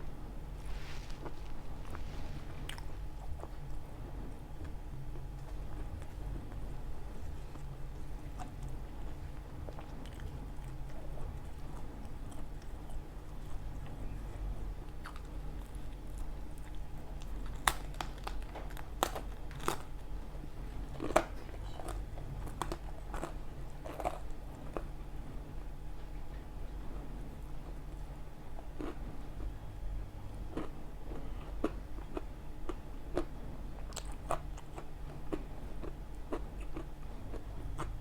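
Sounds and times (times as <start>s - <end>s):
person chewing pizza: 0.0s - 26.4s, 27.0s - 38.0s
steady low hum: 0.0s - 38.0s.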